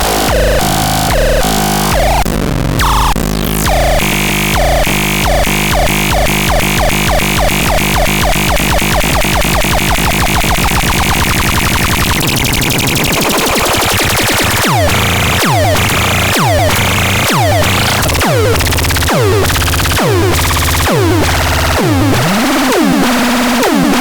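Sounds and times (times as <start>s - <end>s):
noisy synth wash: 2.8s - 24.0s
synthesizer blips: 2.8s - 24.0s.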